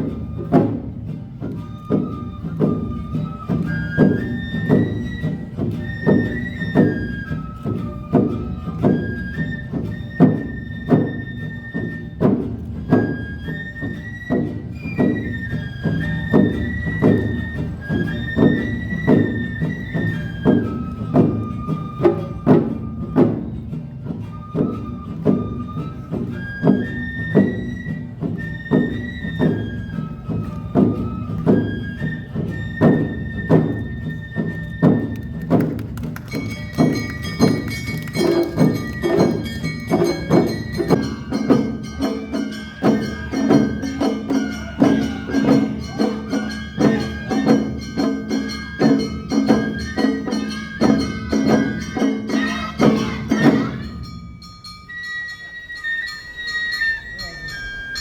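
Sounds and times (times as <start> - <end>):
drum strikes: 0.0 - 55.0
bamboo flute melody: 0.0 - 58.0.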